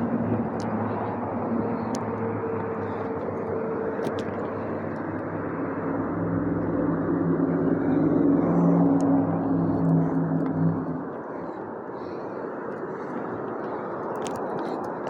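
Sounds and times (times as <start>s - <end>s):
approaching engine: 0.0s - 14.4s
steady engine drone: 0.0s - 15.0s.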